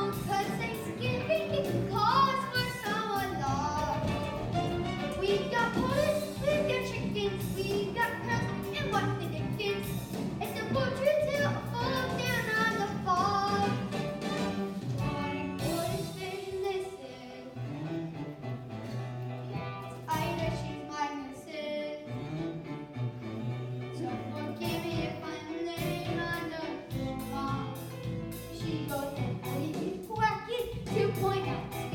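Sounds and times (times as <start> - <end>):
instrumental accompaniment: 0.0 - 31.9.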